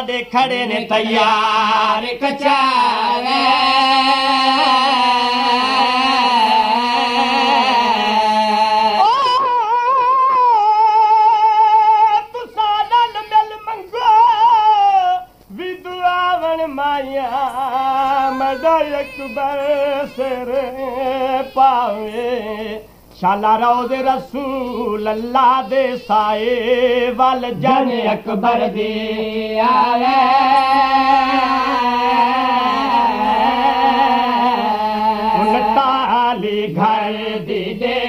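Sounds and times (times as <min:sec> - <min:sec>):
person singing unaccompanied: 0:00.0 - 0:38.0.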